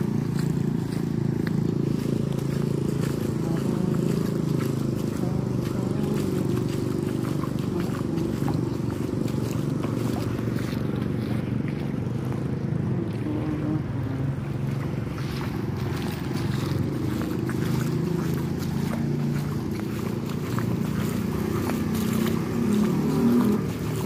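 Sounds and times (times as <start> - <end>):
vehicle engines running: 0.0 - 24.0.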